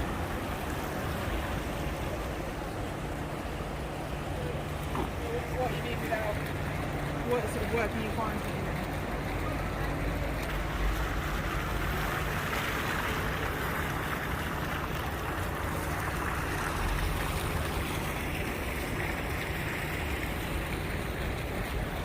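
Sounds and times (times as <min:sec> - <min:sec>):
steady rushing ambient noise: 0:00.0 - 0:22.0.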